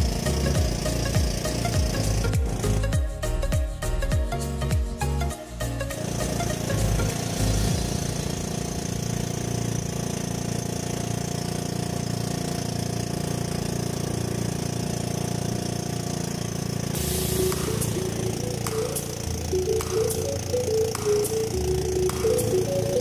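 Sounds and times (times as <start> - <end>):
small boat engine running: 0.0 - 23.0.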